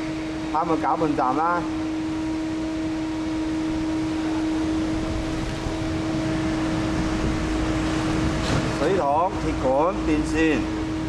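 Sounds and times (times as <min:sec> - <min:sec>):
constant rushing noise: 0:00.0 - 0:11.0
motor hum: 0:00.0 - 0:11.0.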